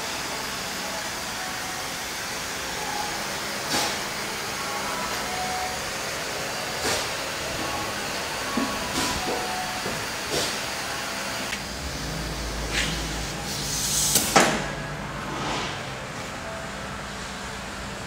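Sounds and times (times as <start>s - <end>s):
workshop background noise: 0.0s - 18.0s.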